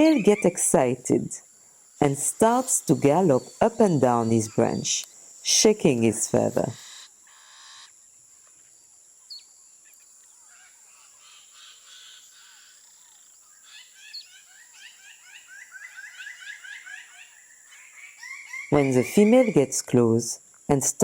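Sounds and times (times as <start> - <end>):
birds of paradise calling: 0.0 - 20.3
high insect drone: 0.0 - 21.0.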